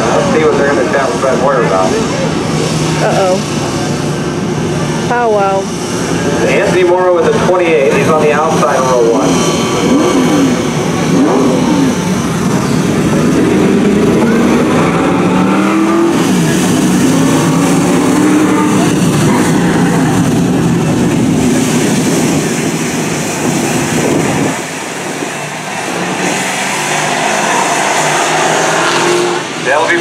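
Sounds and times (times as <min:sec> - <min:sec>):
race truck engines passing: 0:00.0 - 0:30.0.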